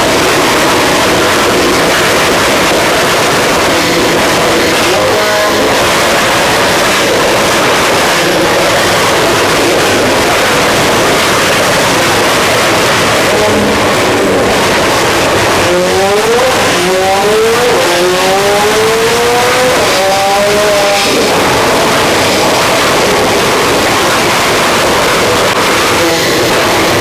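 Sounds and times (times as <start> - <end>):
loud steady rush: 0.0 - 27.0
sports car engine at full throttle: 0.0 - 27.0.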